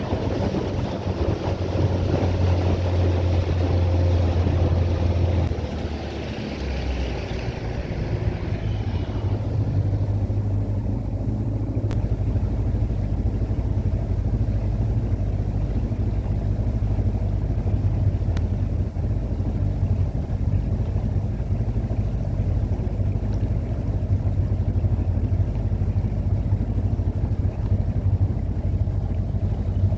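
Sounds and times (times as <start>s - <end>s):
boat motor droning: 0.0s - 29.9s.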